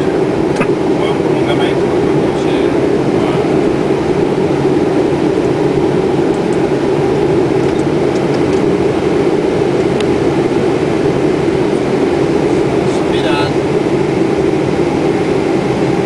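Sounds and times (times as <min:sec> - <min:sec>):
airflow rush: 0:00.0 - 0:16.0
engine and ventilation hum: 0:00.0 - 0:16.0.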